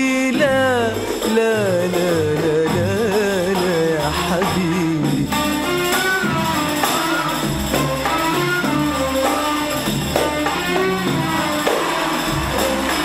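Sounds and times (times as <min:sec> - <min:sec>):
band playing melody: 0:00.0 - 0:13.0
steady percussion beat: 0:00.0 - 0:13.0.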